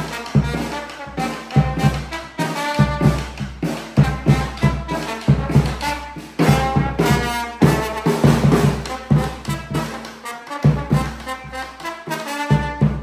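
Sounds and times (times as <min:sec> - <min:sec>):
bass drum and snare beat: 0:00.0 - 0:13.0
brass melody: 0:00.0 - 0:13.0.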